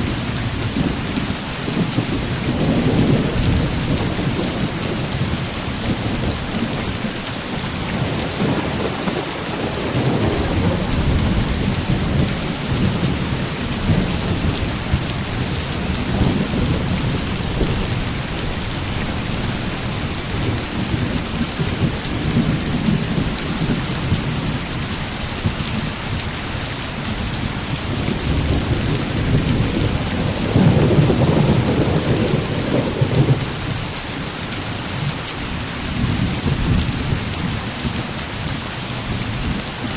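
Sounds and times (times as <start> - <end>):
thunder rumbling: 0.0 - 26.1, 27.0 - 35.2
heavy rain falling: 0.0 - 39.9.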